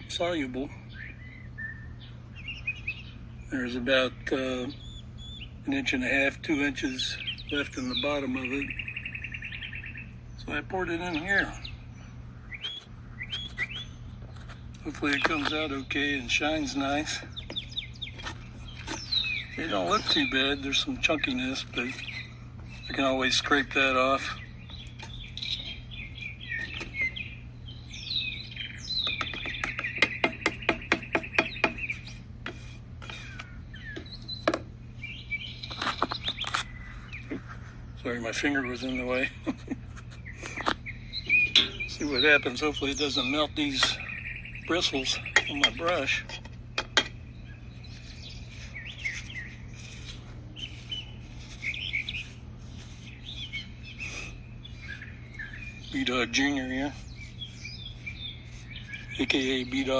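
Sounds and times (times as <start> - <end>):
songbirds chirping and singing: 0.0 - 59.9
steady low hum: 0.0 - 59.9.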